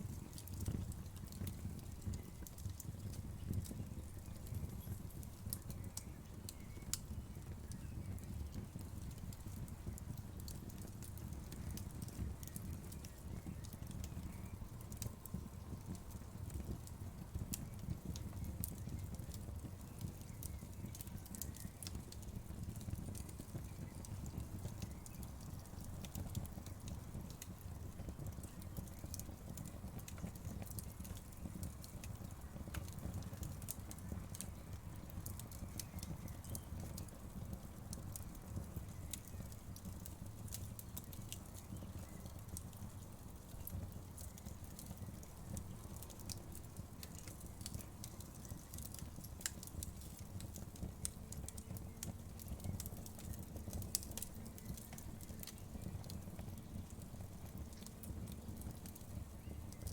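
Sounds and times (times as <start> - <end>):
burning wood crackles and pops: 0.0 - 59.9
low rumble of flames: 0.0 - 59.9.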